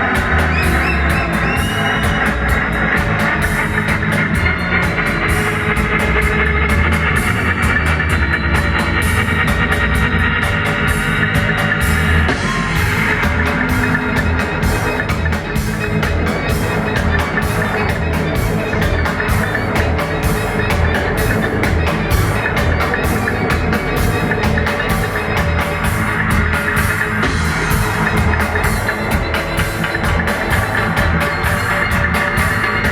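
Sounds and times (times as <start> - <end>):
heavy bass line: 0.0 - 32.9
reggae band playing instrumental: 0.0 - 32.9.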